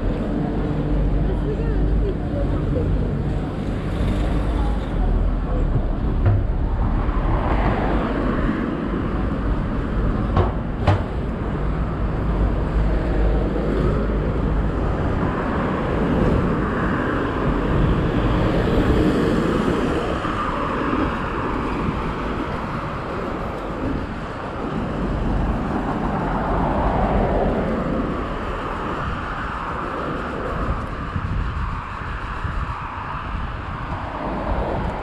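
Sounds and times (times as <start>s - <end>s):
road traffic passing: 0.0s - 35.0s.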